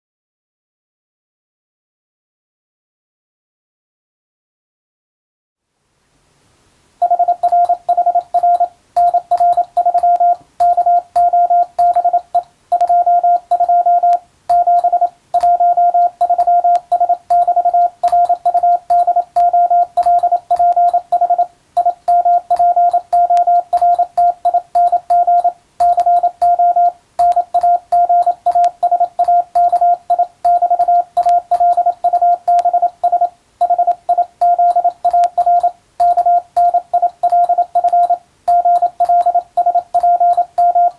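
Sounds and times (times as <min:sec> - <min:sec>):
morse code beeps: 0:07.0 - 0:40.9.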